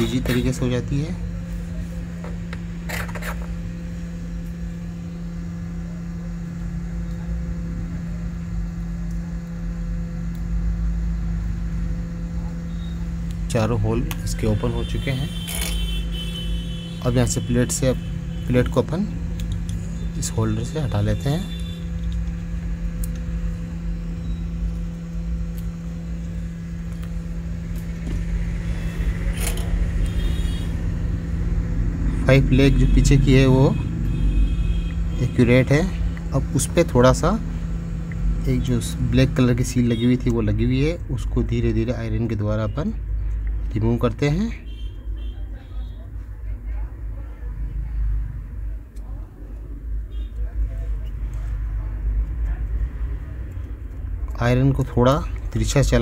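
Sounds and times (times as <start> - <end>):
electric hum with fan whir: 0.0 - 56.0.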